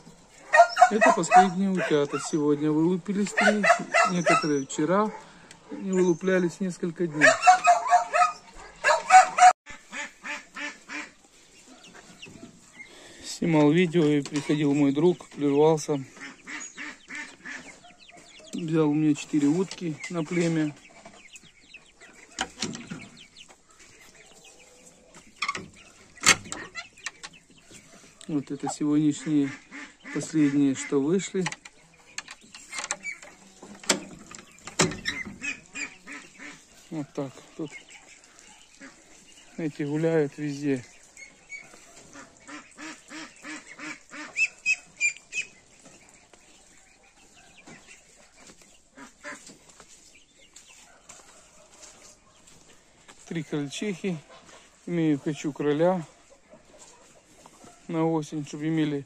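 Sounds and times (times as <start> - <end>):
chicks peeping and clucking: 0.0 - 59.0
ducks quacking: 0.0 - 59.0.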